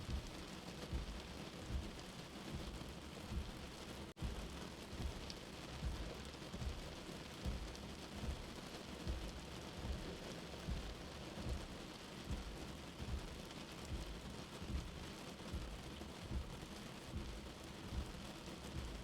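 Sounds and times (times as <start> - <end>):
soft low heartbeat: 0.0 - 19.0
steady rain heard from indoors: 0.0 - 19.0.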